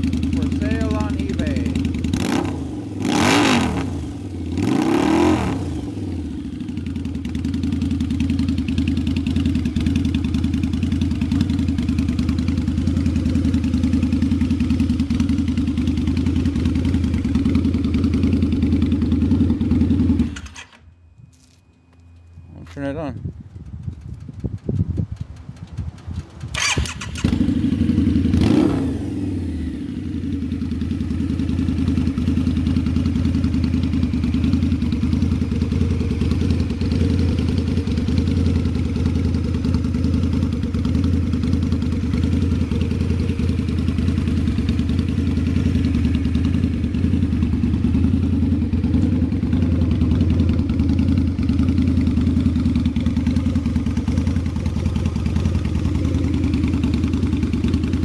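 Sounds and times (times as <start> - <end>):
motorcycle engine starting and idling: 0.0 - 58.0.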